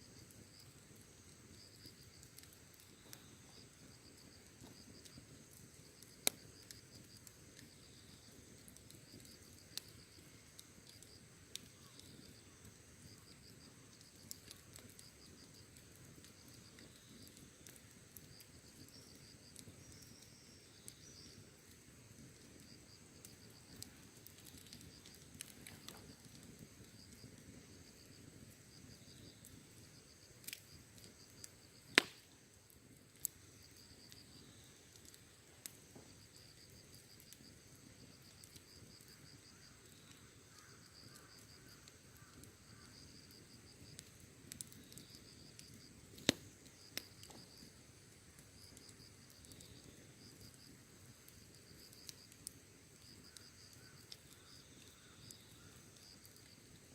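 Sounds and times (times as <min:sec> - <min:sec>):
crickets chirping: 0:00.0 - 0:56.9
wood fire crackling and popping: 0:00.0 - 0:56.9.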